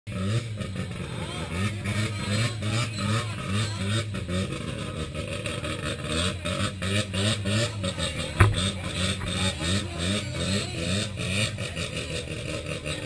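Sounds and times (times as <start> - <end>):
rotary engine revving loudly: 0.1 - 13.0.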